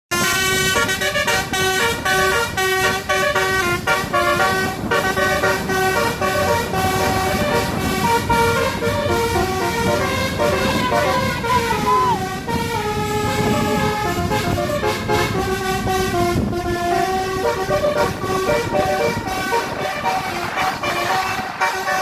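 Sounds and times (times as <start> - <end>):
bus horn playing a tune: 0.1 - 22.0.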